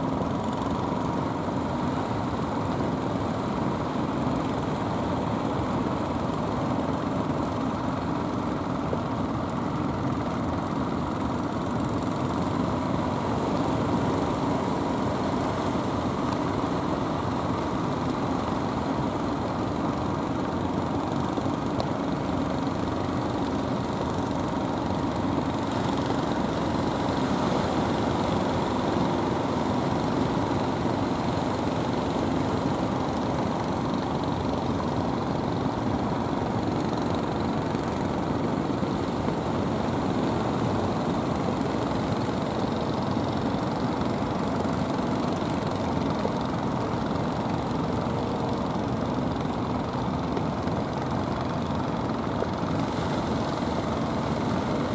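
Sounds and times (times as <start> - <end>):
wind and sea wash: 0.0 - 54.9.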